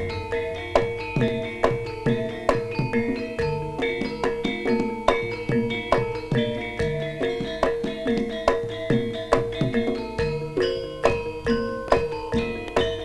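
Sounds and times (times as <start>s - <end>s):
drum strokes: 0.0s - 13.0s
tuned metal percussion ringing: 0.0s - 13.0s.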